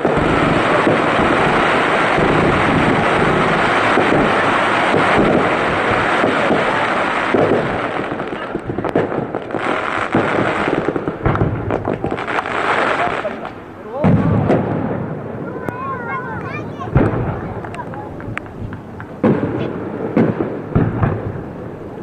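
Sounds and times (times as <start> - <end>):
fireworks bursting and crackling: 0.0 - 22.0.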